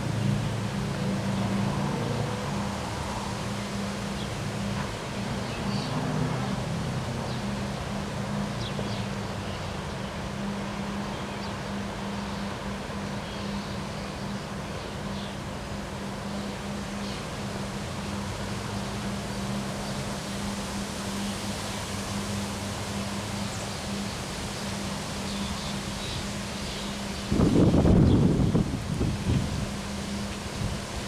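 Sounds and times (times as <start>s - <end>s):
wind rustling: 0.0s - 31.0s.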